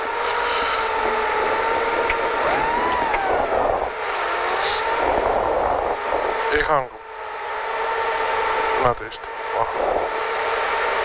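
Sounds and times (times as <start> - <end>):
car engine at raised revs: 0.0 - 11.0.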